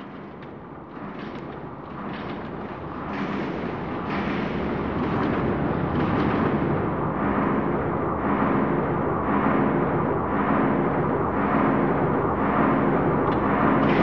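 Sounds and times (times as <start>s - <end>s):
deep dense rumble: 2.0s - 14.0s.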